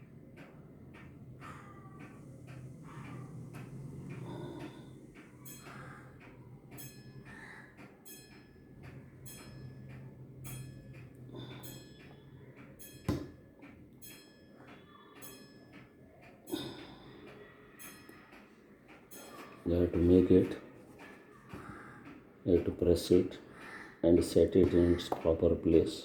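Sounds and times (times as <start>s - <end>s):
soft regular ticking: 0.0s - 26.0s.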